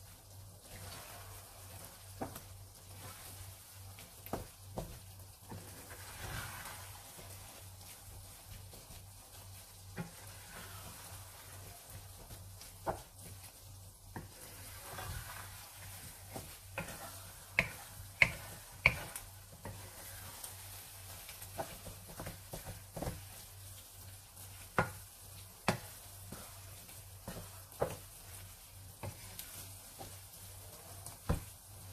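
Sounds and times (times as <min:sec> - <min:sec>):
soft sizzle: 0:00.0 - 0:31.9
spatula tapping pan: 0:01.7 - 0:23.8, 0:24.4 - 0:31.9.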